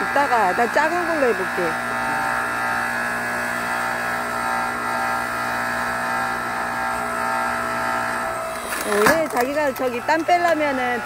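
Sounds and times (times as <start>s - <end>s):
log splitter motor humming: 0.0s - 11.0s.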